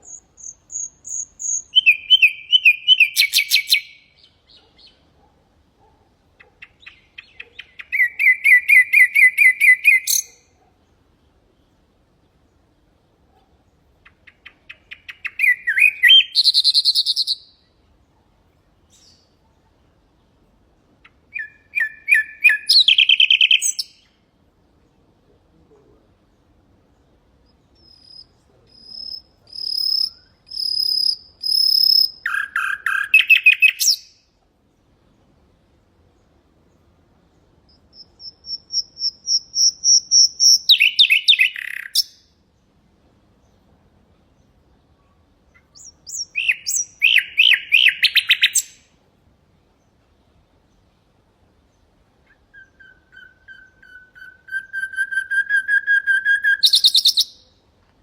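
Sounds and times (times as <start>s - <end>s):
nightingale singing: 0.0s - 12.7s, 13.3s - 17.8s, 18.8s - 19.6s, 21.0s - 24.2s, 25.7s - 34.3s, 36.1s - 42.7s, 44.3s - 49.0s, 51.6s - 57.6s.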